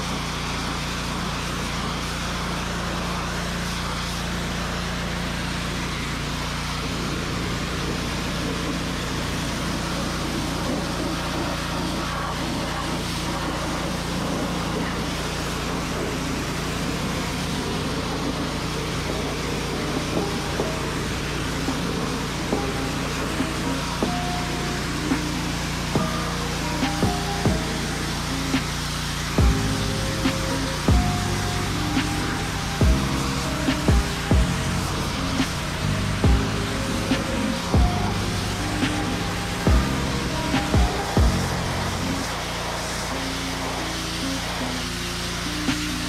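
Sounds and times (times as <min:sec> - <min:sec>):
high-pressure water jet hissing: 0:00.0 - 0:46.0
pressure washer engine humming: 0:00.0 - 0:46.0.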